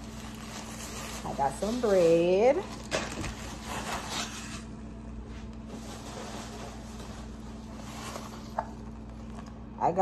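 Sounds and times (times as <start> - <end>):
grocery bags rustling: 0.0 - 9.6
low room hum: 0.0 - 10.0.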